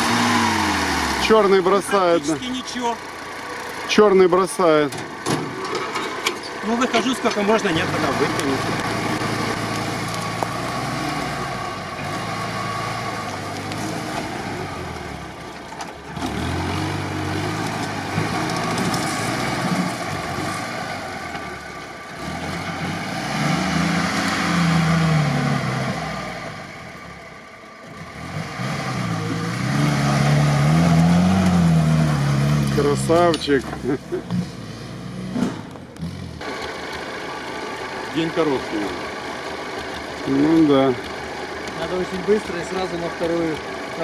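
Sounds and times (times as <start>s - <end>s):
jeep engine revving under load: 0.0s - 3.9s, 6.5s - 27.2s, 27.8s - 44.0s.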